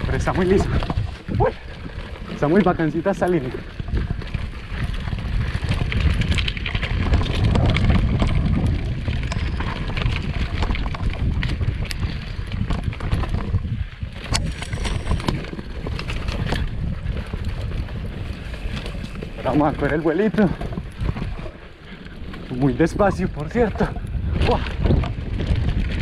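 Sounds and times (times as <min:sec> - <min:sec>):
bike rattling over bumps: 0:00.0 - 0:26.0
wind rumble on microphone: 0:00.0 - 0:26.0.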